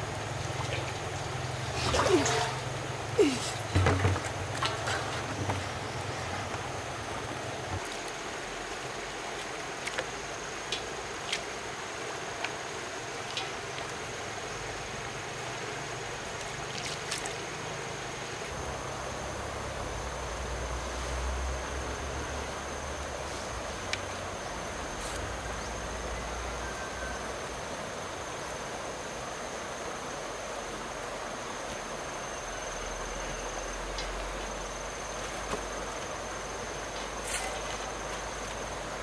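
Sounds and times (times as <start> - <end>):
flowing water: 0.0 - 39.0.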